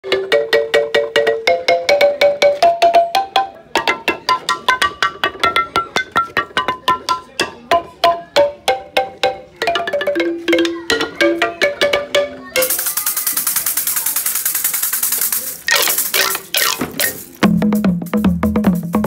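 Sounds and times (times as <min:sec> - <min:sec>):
log xylophone notes: 0:00.0 - 0:17.6.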